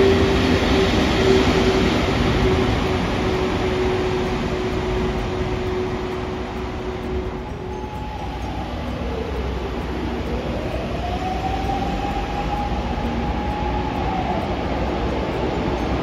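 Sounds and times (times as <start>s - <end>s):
train rumbling on rails: 0.0s - 16.0s
train whine rising and falling: 0.0s - 16.0s.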